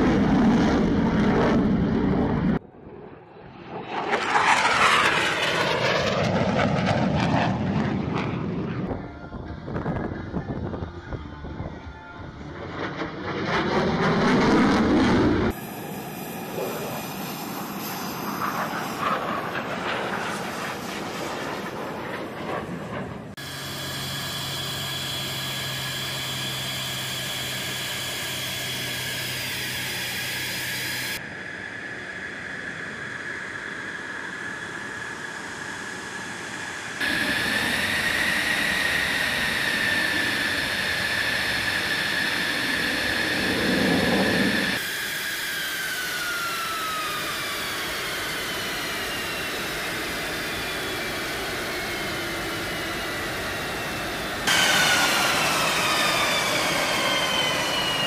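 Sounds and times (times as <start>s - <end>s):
jet engine whine and hiss: 0.0s - 58.0s.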